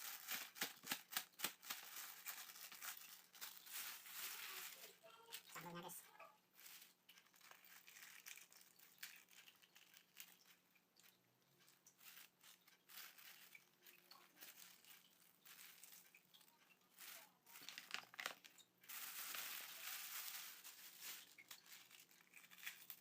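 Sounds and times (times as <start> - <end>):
food wrapping crinkling: 0.0 - 23.0.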